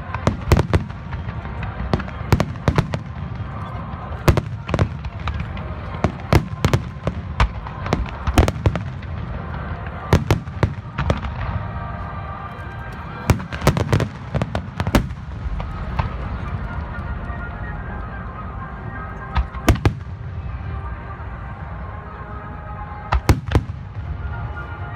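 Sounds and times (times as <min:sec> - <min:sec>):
fireworks bursting: 0:00.0 - 0:17.7, 0:19.3 - 0:21.0, 0:23.1 - 0:24.7.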